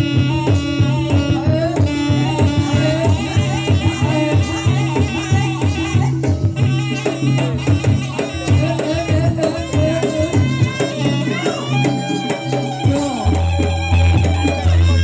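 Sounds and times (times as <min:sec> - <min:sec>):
hand drums beating: 0:00.0 - 0:15.0
ornamented melody line: 0:00.0 - 0:15.0.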